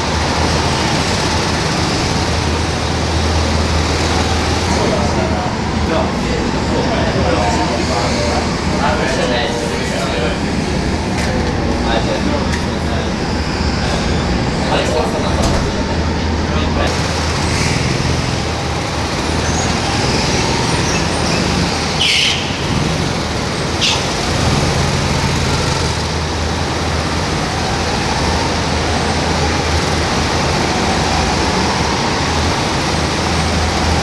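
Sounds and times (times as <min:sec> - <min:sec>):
go-karts running: 0:00.0 - 0:34.0.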